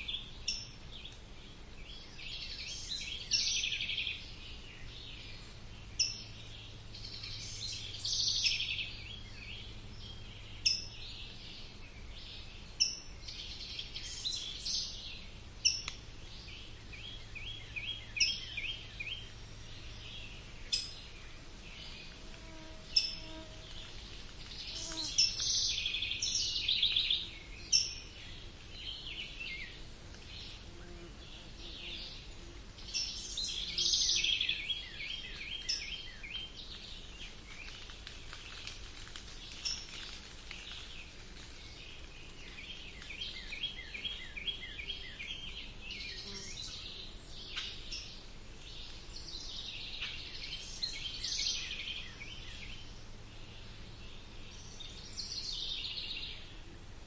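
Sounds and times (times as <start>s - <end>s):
birds chirping and trilling: 0.0s - 37.8s, 39.4s - 56.8s.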